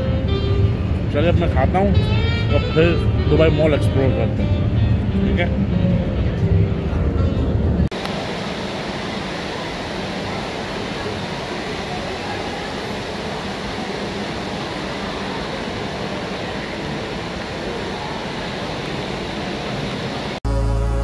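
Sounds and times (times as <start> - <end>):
crowd of people talking: 0.0 - 8.1, 8.9 - 20.6.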